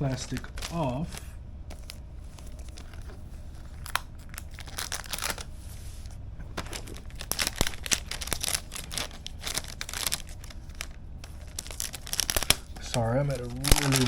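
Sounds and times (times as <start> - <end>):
plastic wrapping crinkling and tearing: 0.1 - 5.5, 6.5 - 14.0.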